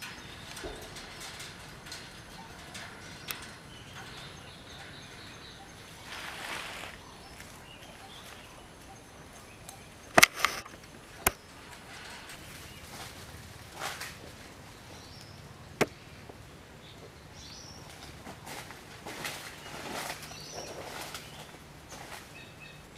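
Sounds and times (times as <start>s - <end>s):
soft rustle: 0.0s - 16.4s, 17.4s - 22.9s.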